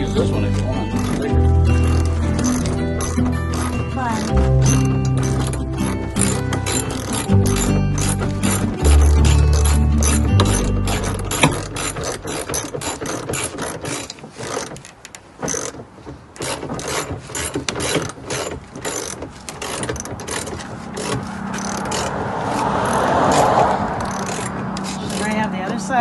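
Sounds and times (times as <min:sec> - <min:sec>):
ratchet wrench clicking: 0:00.9 - 0:15.8, 0:16.4 - 0:22.2, 0:22.8 - 0:25.3.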